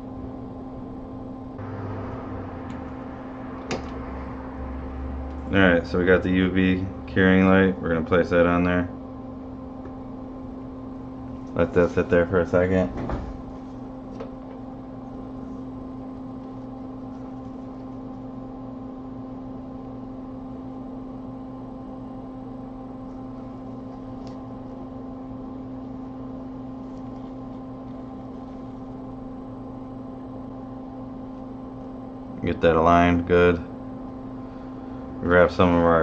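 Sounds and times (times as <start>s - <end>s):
electrical hum of equipment: 0.0s - 36.0s.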